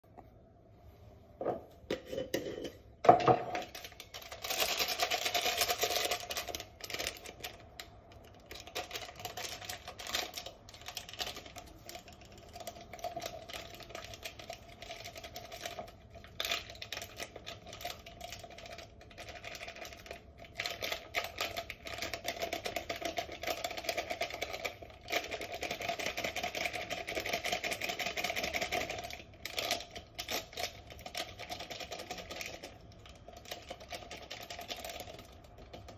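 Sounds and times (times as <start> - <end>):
powder pouring into jar: 3.5 - 35.9
plastic sachets crinkling and tearing: 3.6 - 35.8.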